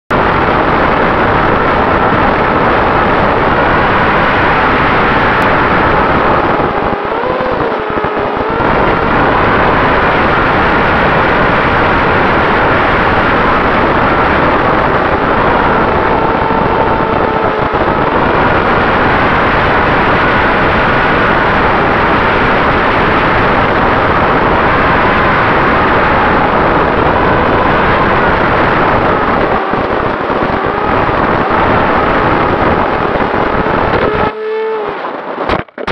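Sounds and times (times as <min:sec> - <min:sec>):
wind rush: 0:00.1 - 0:35.9
electric motor and propeller whine: 0:00.2 - 0:35.5.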